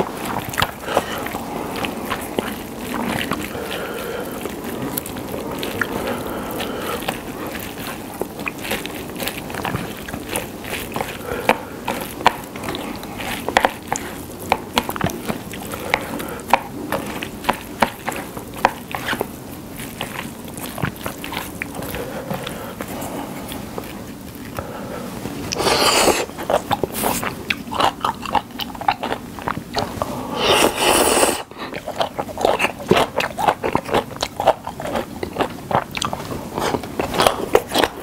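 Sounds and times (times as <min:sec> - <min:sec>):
sticky wet noodle mixing: 0:00.0 - 0:38.0.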